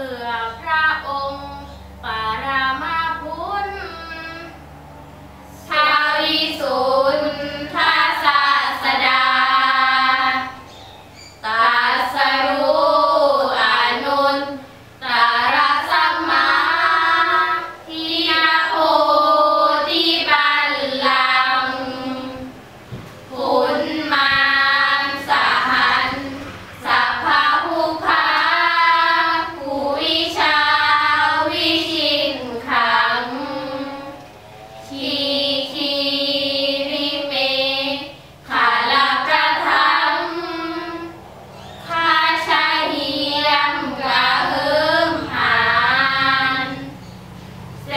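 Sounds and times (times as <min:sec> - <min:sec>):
girls chanting together: 0:00.0 - 0:10.7, 0:11.4 - 0:47.0.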